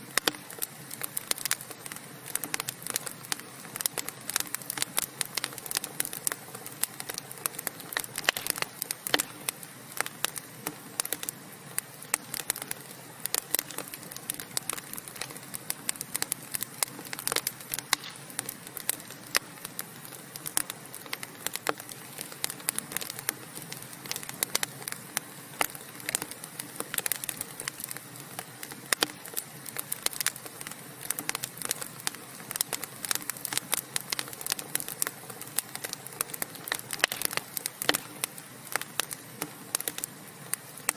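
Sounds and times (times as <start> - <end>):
logs crackling in a fireplace: 0.0 - 40.9.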